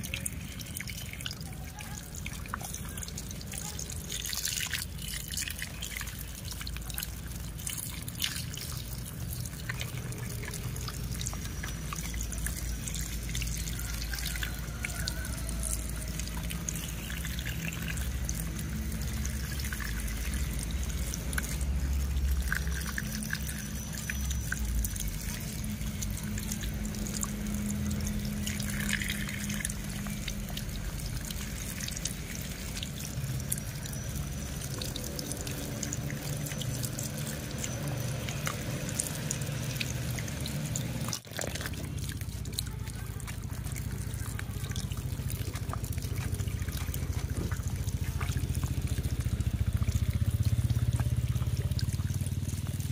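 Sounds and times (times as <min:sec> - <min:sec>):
water dripping: 0:00.0 - 0:52.9
water pouring and splashing: 0:00.0 - 0:52.9.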